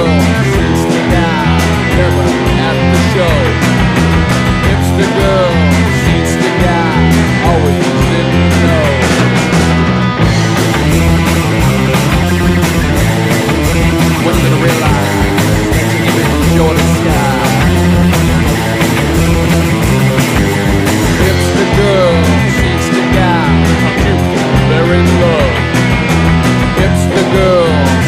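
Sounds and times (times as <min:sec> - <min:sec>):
electric guitars: 0:00.0 - 0:28.0
steady drum beat: 0:00.0 - 0:28.0.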